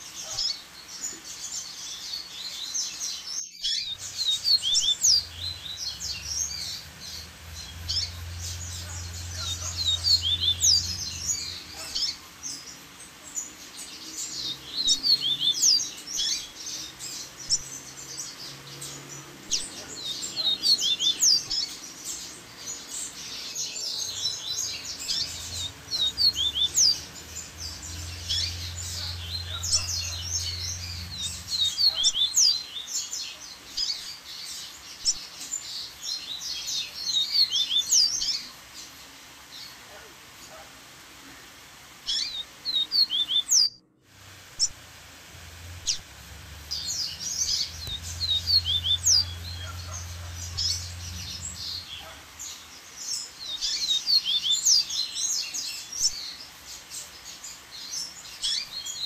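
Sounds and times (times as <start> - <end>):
bird twittering song: 0.0 - 40.6, 42.0 - 59.0.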